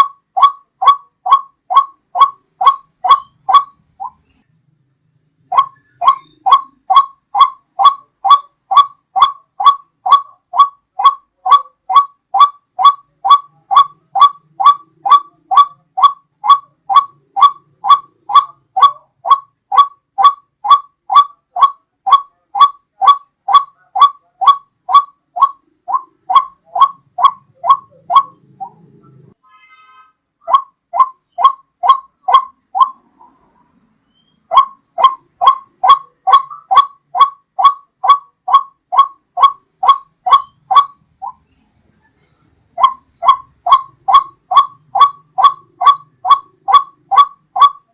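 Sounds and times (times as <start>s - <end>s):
repeated bird call: 0.0s - 47.9s.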